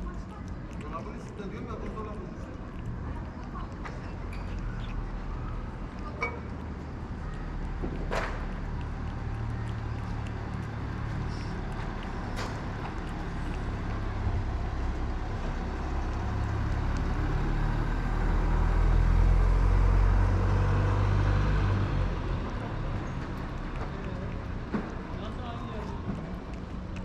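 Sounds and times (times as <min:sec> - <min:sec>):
passing motor vehicle rumble: 0:00.0 - 0:27.0.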